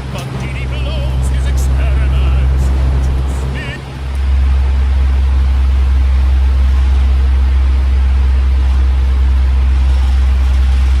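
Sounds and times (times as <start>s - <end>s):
fan humming and hissing: 0.0s - 11.0s.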